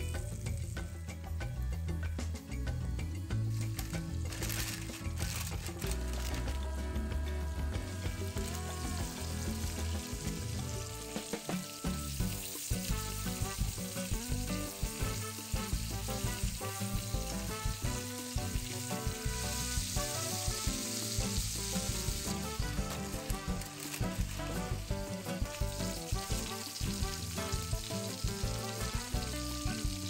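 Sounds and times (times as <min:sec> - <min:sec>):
livers sizzling in a pan: 0:03.3 - 0:07.0, 0:07.6 - 0:30.0.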